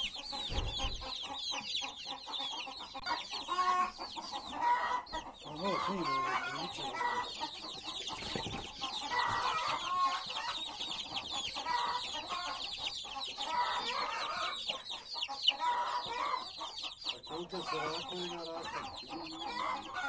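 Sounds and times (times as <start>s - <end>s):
chicks peeping: 0.0s - 20.0s
lower chicken calls: 0.0s - 20.0s.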